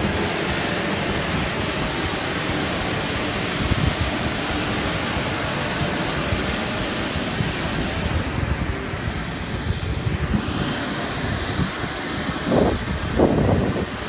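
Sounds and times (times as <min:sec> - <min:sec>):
high-pitched turbine whine: 0:00.0 - 0:14.0
rushing noise: 0:00.0 - 0:14.0.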